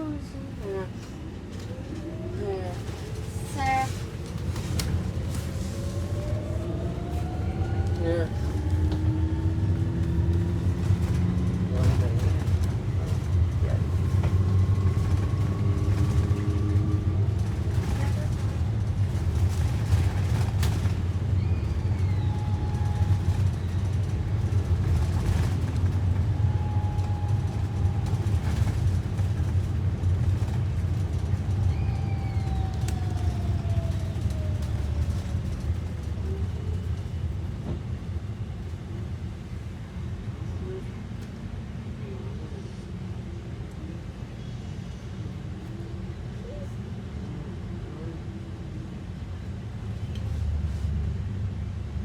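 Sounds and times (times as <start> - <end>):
bus road and chassis rumble: 0.0 - 52.0.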